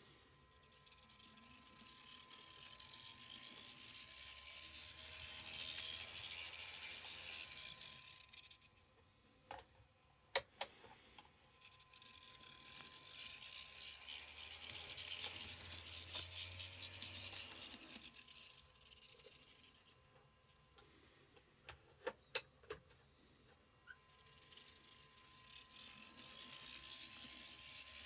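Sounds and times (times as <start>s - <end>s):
model locomotive motor whirring: 0.0s - 9.7s, 10.3s - 28.0s.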